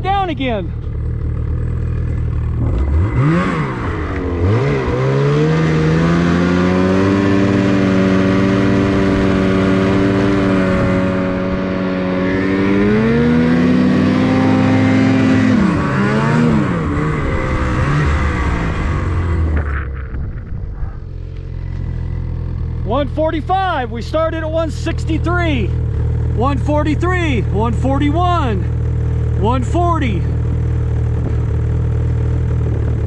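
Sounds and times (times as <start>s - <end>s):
snowmobile engine revving: 0.0s - 33.0s.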